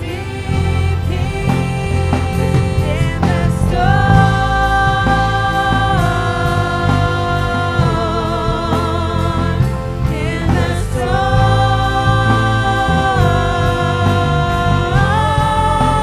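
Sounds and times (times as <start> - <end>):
drums: 0.0 - 16.0
electric bass guitar: 0.0 - 16.0
keyboard: 0.0 - 16.0
women singing long notes: 0.0 - 16.0.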